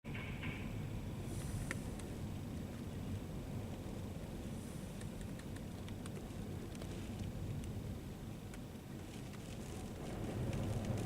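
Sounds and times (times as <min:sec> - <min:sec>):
storm wind rushing: 0:00.4 - 0:11.0.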